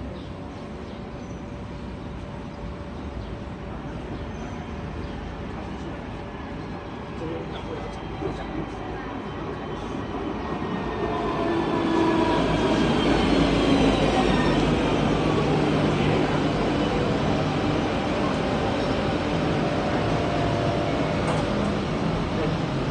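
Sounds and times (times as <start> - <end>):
tram running gear rumble: 0.0 - 22.9.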